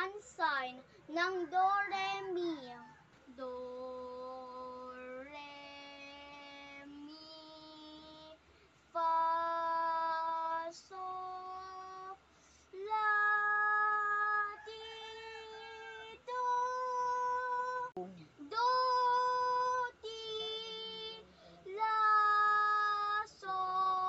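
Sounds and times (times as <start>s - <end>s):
child singing a scale: 0.0s - 8.4s, 12.8s - 24.0s.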